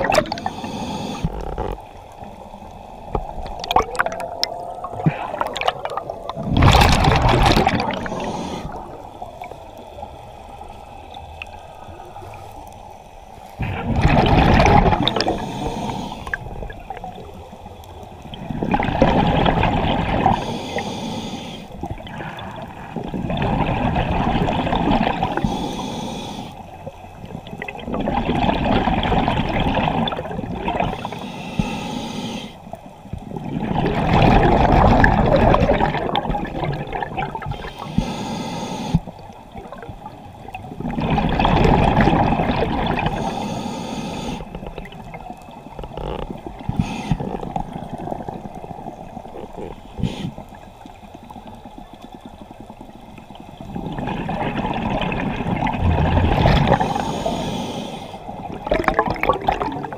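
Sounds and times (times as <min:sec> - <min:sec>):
exhaled bubbles underwater: 0:00.0 - 0:12.4, 0:13.6 - 0:20.9, 0:21.7 - 0:26.1, 0:26.7 - 0:31.7, 0:33.1 - 0:38.0, 0:38.9 - 0:43.4, 0:44.1 - 0:59.9.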